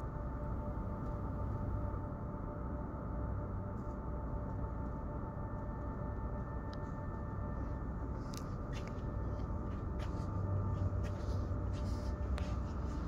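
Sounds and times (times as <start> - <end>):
low industrial drone: 0.0 - 13.0.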